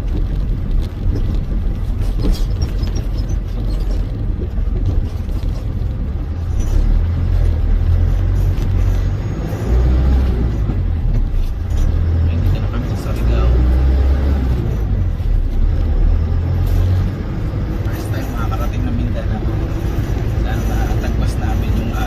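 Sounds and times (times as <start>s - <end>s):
road noise: 0.0s - 22.0s
truck engine rumble: 0.0s - 22.0s.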